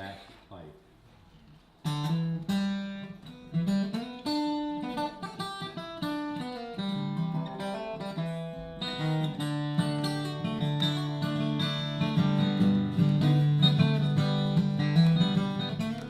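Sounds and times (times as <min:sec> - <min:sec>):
solo acoustic guitar: 0:01.2 - 0:16.0.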